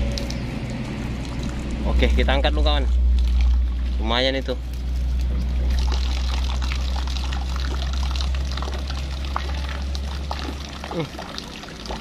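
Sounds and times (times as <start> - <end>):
low rumble: 0.0 - 10.8
river water trickling: 0.0 - 12.0.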